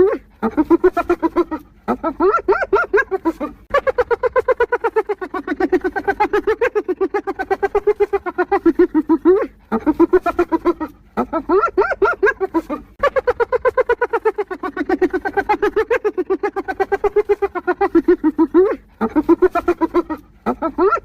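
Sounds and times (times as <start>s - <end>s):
hyena laughing: 0.0s - 21.0s.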